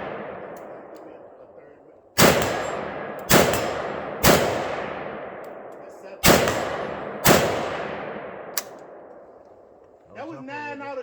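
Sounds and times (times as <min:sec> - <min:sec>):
echoing gunshots: 0:00.0 - 0:09.8.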